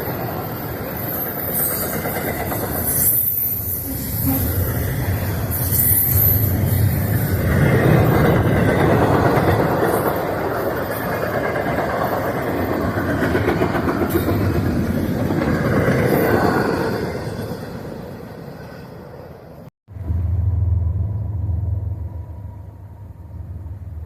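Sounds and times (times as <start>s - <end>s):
freight train cars rolling: 0.0s - 24.0s.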